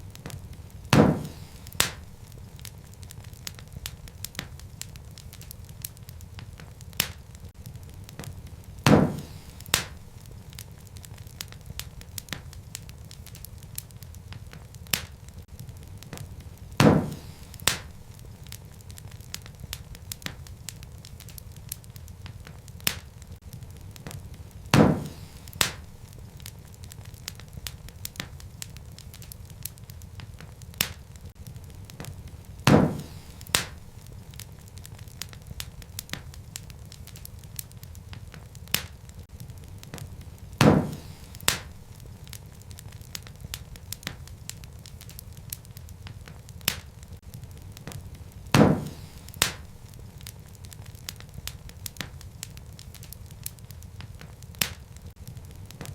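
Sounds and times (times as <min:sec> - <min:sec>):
loud fire pops: 0:00.0 - 0:55.9
wood fire crackling: 0:00.0 - 0:55.9.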